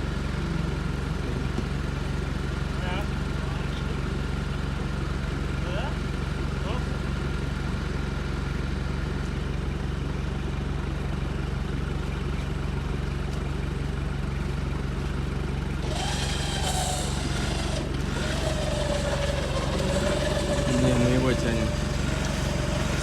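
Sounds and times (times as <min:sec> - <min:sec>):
off-road engine running: 0:00.0 - 0:23.0.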